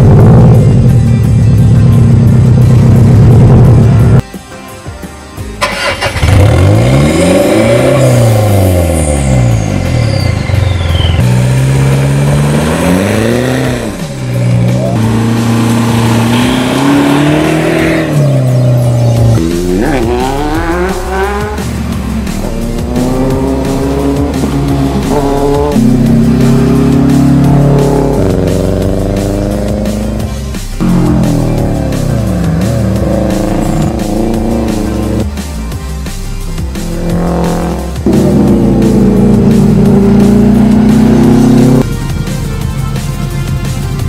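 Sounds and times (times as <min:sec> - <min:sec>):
car engines revving: 0:00.0 - 0:04.2, 0:05.6 - 0:41.9.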